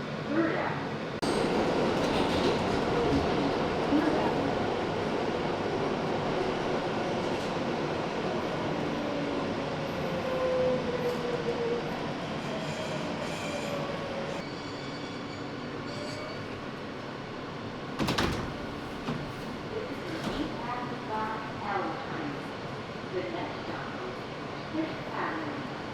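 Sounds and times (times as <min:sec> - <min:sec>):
subway train rumble: 0:00.0 - 0:25.9.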